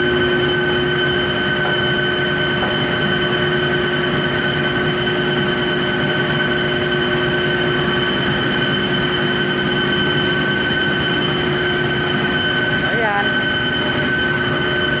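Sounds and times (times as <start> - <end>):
electric pump motors droning: 0.0 - 15.0.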